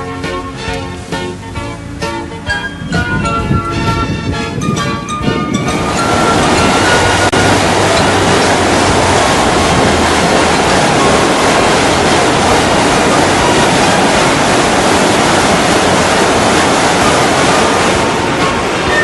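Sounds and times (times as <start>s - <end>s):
rushing water: 0.0s - 19.0s
wind: 0.0s - 19.0s.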